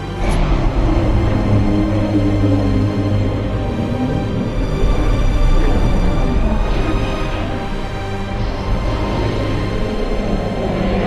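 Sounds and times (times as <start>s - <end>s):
film soundtrack music: 0.0s - 11.0s.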